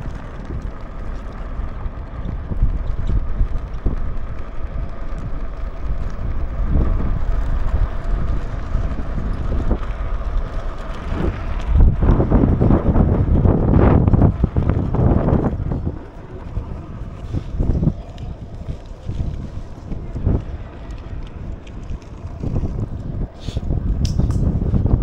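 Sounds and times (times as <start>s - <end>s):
motorbike engine running: 0.0s - 25.0s
wind buffeting microphone: 0.0s - 25.0s.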